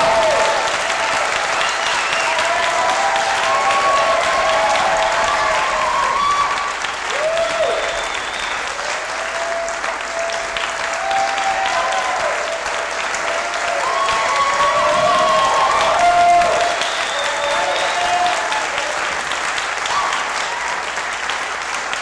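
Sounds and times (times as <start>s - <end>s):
voices whooping: 0.0s - 18.9s
audience applauding and cheering: 0.0s - 22.0s.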